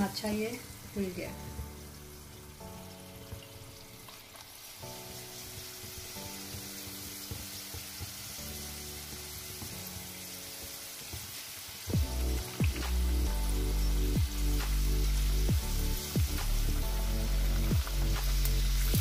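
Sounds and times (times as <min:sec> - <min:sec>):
background music: 0:00.0 - 0:19.0
food deep-frying in hot oil: 0:00.0 - 0:19.0.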